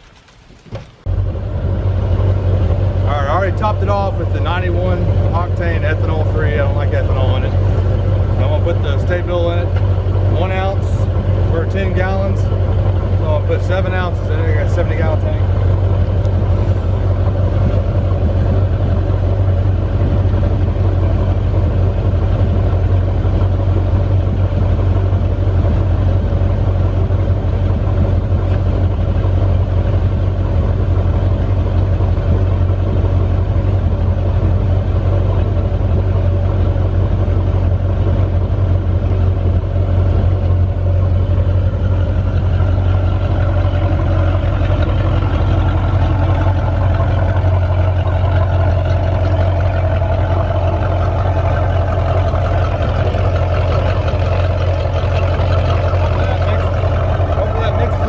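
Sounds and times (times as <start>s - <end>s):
boat engine idling: 0.0s - 58.0s.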